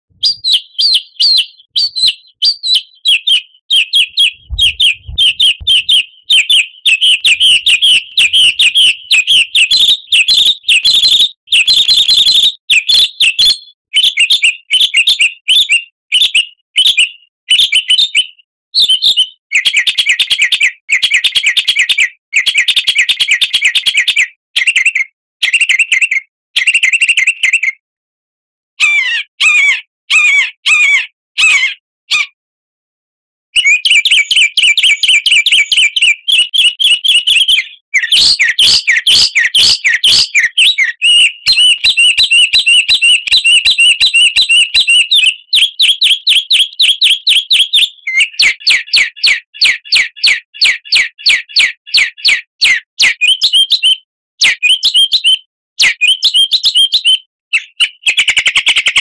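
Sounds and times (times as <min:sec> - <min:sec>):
songbird chirping and trilling: 0:00.2 - 0:27.8, 0:28.8 - 0:32.3, 0:33.6 - 0:59.0.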